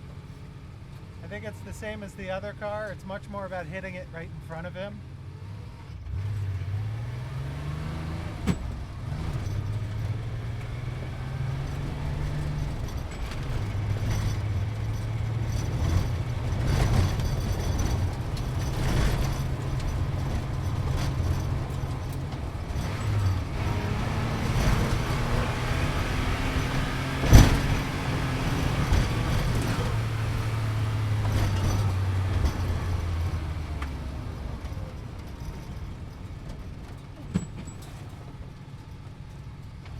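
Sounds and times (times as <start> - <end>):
road noise inside car: 0.0 - 39.9
sports car engine: 0.0 - 39.9.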